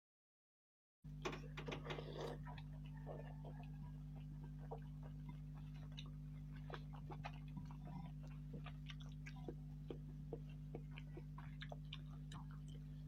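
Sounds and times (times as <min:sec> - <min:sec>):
steady low hum: 0:01.1 - 0:13.0
mouth chewing clicks and smacks: 0:01.2 - 0:13.0.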